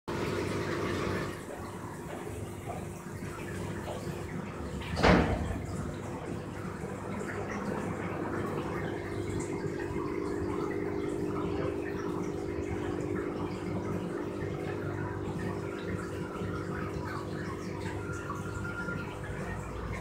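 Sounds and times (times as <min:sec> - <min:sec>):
aquarium water trickling and bubbling: 0:00.1 - 0:20.0
steady low hum: 0:01.4 - 0:20.0.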